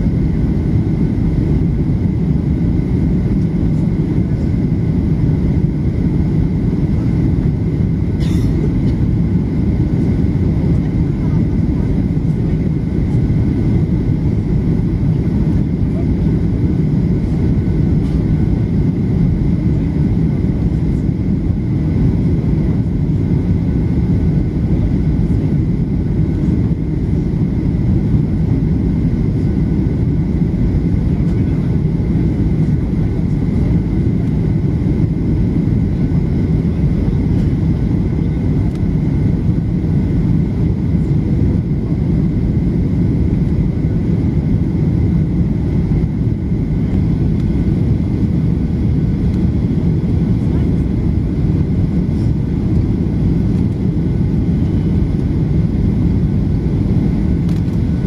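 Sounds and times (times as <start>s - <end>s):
faint steady whine: 0.0s - 58.0s
jet engines and airflow rush: 0.0s - 58.0s.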